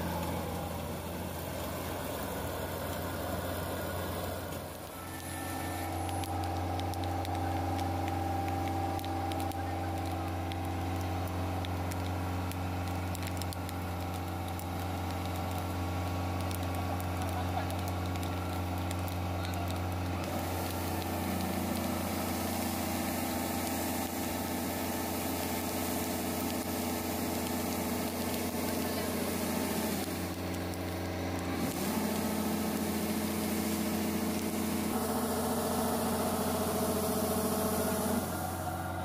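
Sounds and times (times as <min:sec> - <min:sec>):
auger discharging grain: 0:00.0 - 0:39.0
combine harvester diesel engine: 0:00.0 - 0:39.0.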